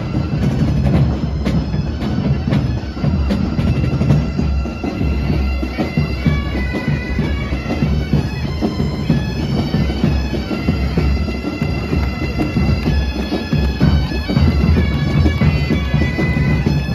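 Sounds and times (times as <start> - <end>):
bagpipe band playing: 0.0 - 16.9.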